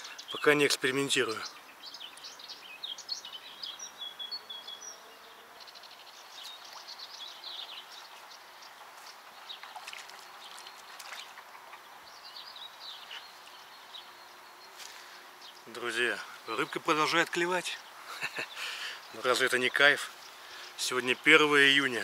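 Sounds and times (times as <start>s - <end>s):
faint steady background hiss: 0.0s - 22.0s
small songbirds chirping: 0.0s - 22.0s.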